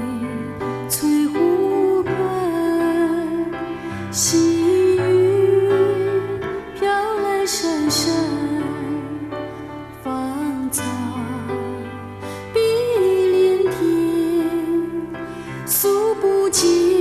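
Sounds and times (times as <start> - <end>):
slow ballad music: 0.0 - 17.0.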